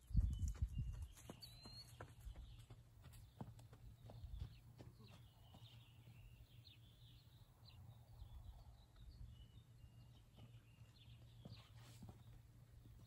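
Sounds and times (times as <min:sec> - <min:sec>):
faint birdsong chirps and trills: 0:00.0 - 0:13.0.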